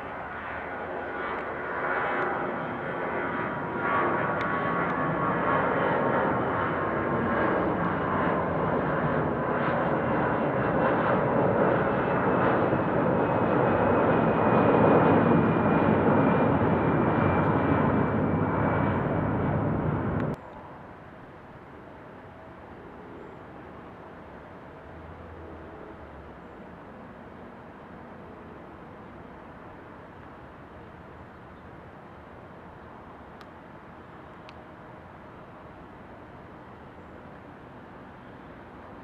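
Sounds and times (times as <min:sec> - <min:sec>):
jet airliner engine noise: 0:00.0 - 0:20.7, 0:27.7 - 0:39.0.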